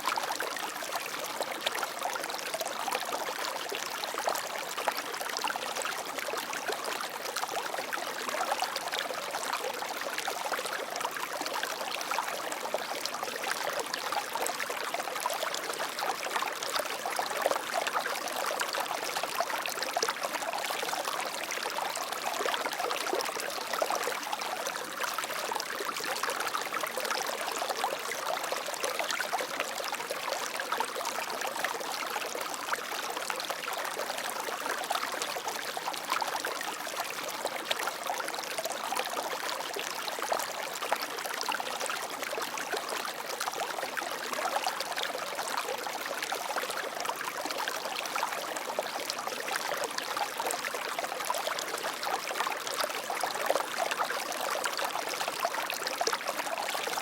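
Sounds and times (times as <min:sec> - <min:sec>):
water flowing steadily: 0:00.0 - 0:57.0.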